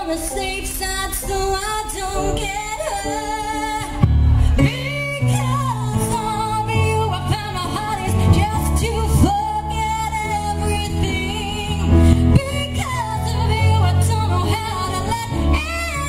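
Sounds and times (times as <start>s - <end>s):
woman singing: 0.0s - 16.0s
instrumental backing with bass: 1.4s - 16.0s.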